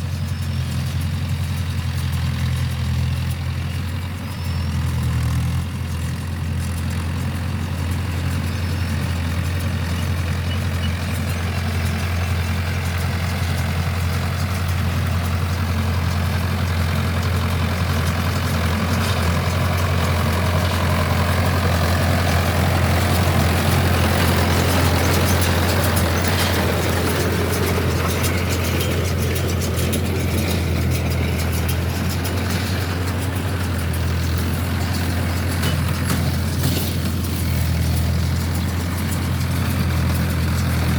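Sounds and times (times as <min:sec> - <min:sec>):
baler machinery noise: 0:00.0 - 0:40.9
fine rattle: 0:00.0 - 0:40.9
tractor engine running: 0:00.0 - 0:40.9.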